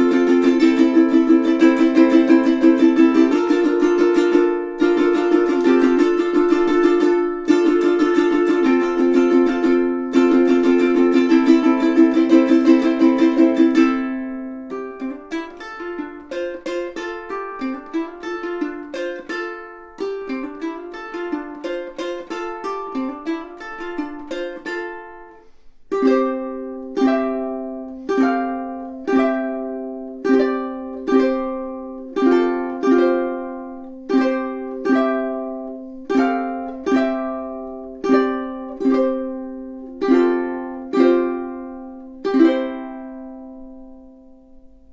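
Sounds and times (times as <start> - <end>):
ukulele fingerpicked and strummed: 0.0 - 44.9.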